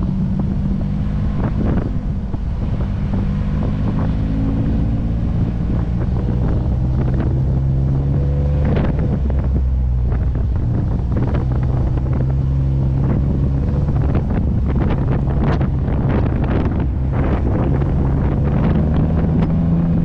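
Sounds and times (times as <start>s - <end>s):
engine running at low revs: 0.0s - 20.0s
wind on microphone: 0.0s - 20.0s.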